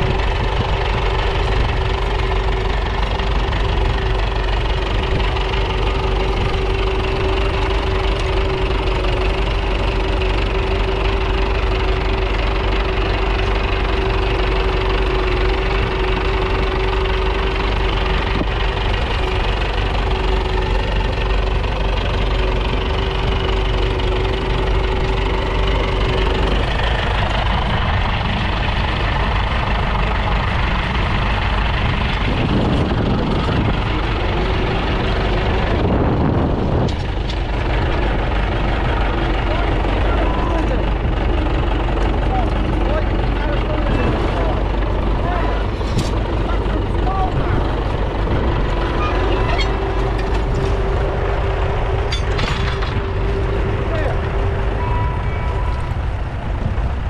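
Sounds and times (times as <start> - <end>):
steady whine: 0.0 - 57.0
tractor engine running: 0.0 - 57.0.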